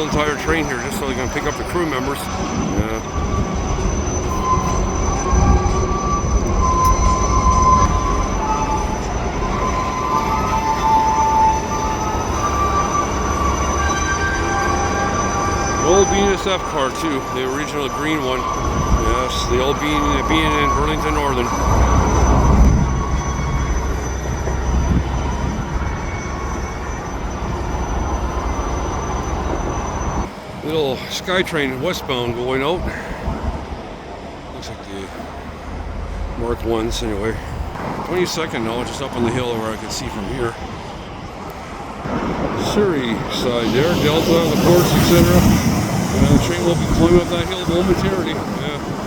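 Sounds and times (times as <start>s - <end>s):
wheels squealing: 0.0s - 30.4s, 31.2s - 49.0s
train wheels rumbling on track: 0.0s - 49.0s.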